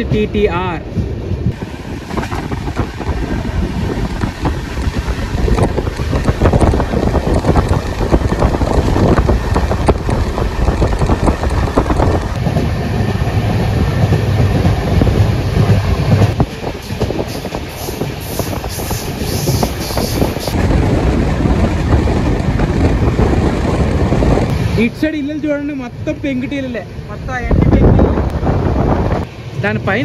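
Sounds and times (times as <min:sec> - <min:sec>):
train coach rumbling on rails: 0:00.0 - 0:30.0.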